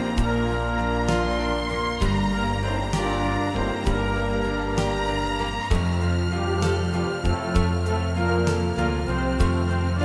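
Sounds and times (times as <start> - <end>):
mellow instrumental chords: 0.0 - 10.0.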